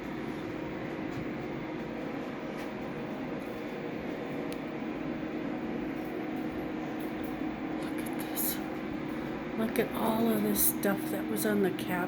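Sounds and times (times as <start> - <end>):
drying machines fan drone: 0.0 - 12.0.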